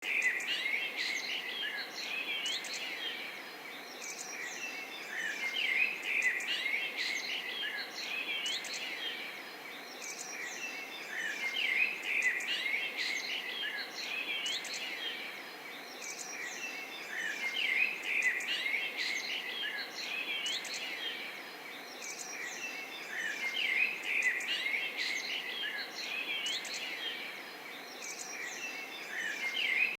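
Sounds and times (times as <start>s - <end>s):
background hiss: 0.0s - 29.9s
small birds chirping: 0.0s - 30.0s.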